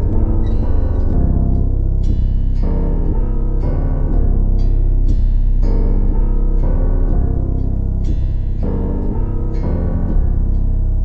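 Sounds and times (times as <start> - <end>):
background music with deep bass: 0.0 - 11.0.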